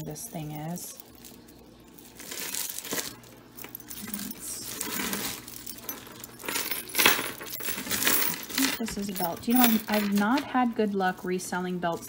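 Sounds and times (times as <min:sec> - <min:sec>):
jewelry jangling and clinking: 0:00.0 - 0:12.0.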